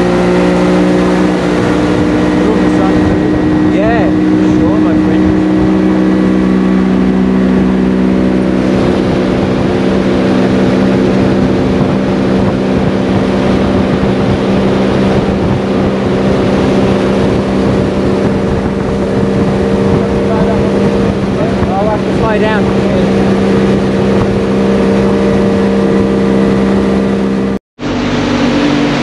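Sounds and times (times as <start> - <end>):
motorboat engine running: 0.0 - 29.0
water rushing over hull: 0.0 - 29.0.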